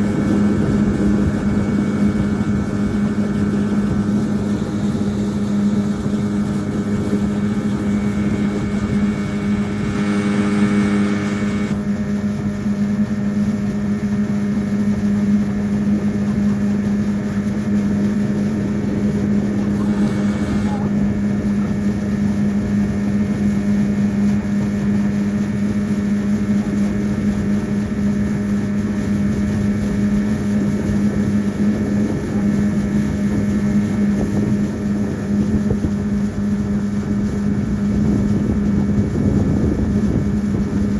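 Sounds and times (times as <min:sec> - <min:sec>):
boat motor droning: 0:00.0 - 0:40.9.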